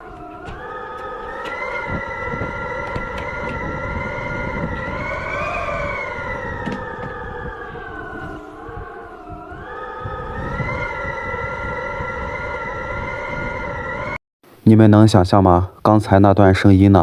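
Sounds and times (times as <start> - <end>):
low buffeting rumble: 0.0 - 14.2
wind howling: 0.0 - 14.2.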